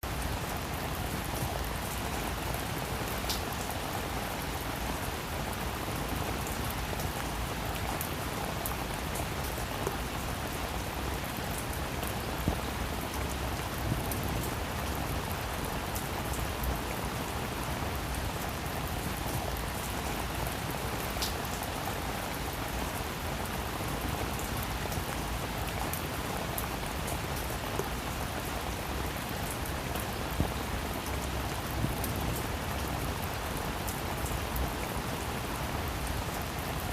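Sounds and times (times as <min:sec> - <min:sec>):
steady rain hiss: 0:00.0 - 0:36.9.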